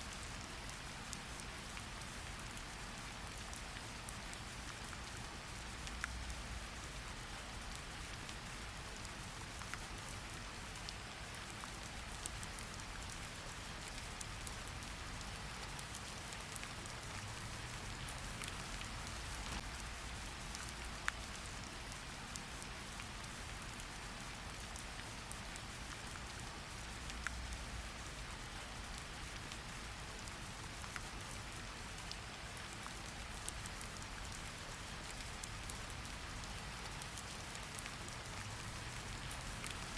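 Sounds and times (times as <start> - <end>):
steady rain hiss: 0.0 - 39.9
raindrops ticking: 7.4 - 39.9.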